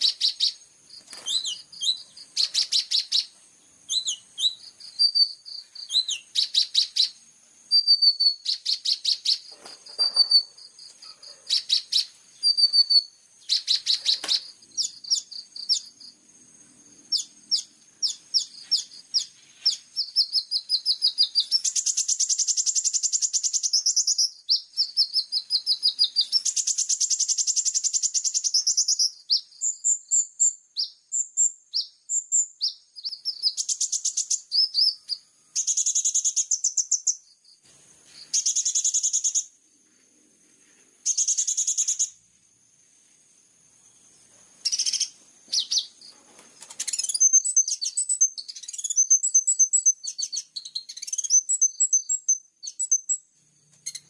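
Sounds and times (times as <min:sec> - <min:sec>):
songbird chirps and trills: 0:00.0 - 0:54.0.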